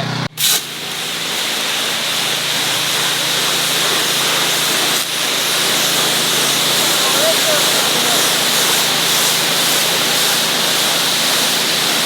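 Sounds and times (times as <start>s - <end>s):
pressure washer engine hum: 0.0s - 12.0s
pressure washer water jet hissing: 0.4s - 12.0s.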